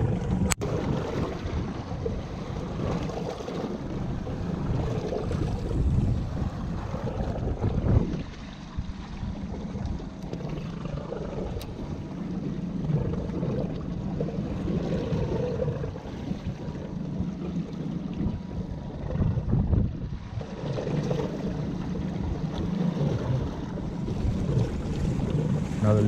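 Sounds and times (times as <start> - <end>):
boat motor running: 0.0 - 26.0
wind buffeting microphone: 0.0 - 26.0.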